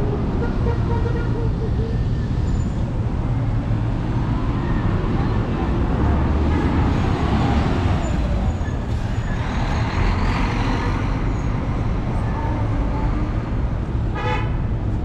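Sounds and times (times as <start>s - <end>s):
traffic engines passing: 0.0s - 15.0s.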